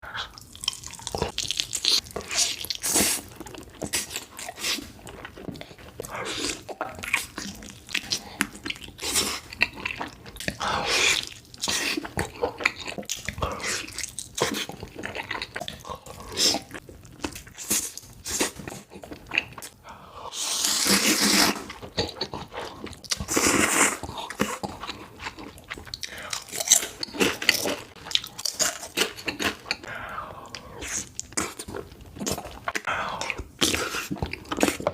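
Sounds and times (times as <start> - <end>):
person chewing and crunching food: 0.1 - 34.9.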